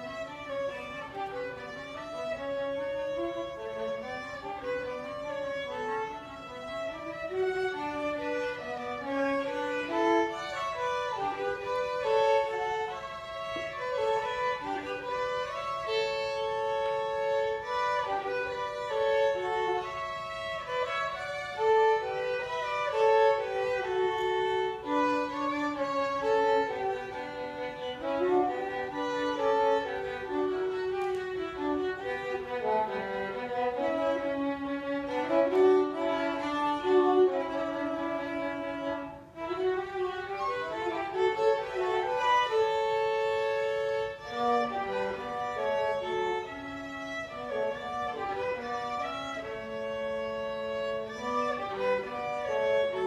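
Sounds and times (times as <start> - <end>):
violin duet: 0.0 - 53.0.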